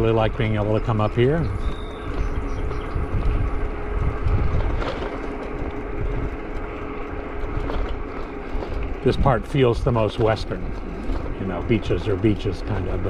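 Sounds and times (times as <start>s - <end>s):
traffic going by: 0.0s - 13.0s
wind rumbling on microphone: 0.0s - 13.0s.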